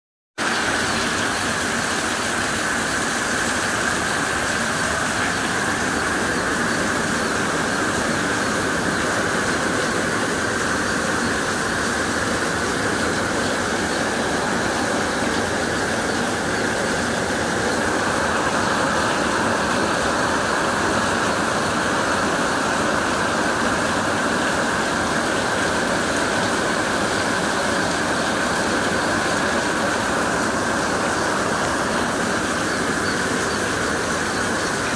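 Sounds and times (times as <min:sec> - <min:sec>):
heavy rain pouring: 0:00.4 - 0:34.9.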